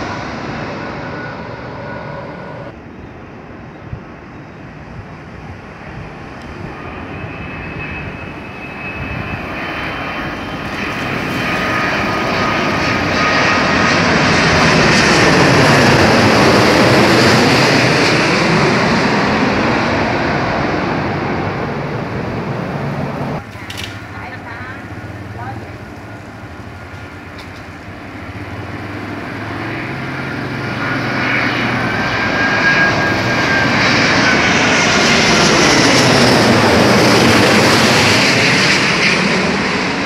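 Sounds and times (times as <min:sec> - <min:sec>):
jet airliner passing overhead: 0:00.0 - 0:40.0.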